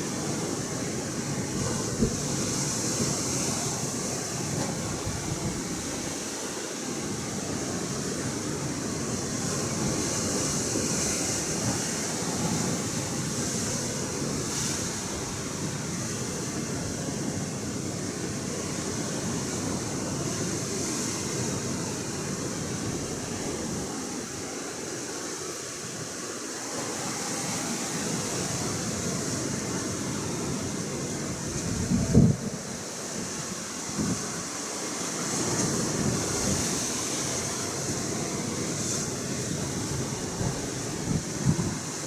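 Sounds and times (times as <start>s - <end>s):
ocean surf washing: 0.0s - 42.0s
wind: 0.0s - 42.0s.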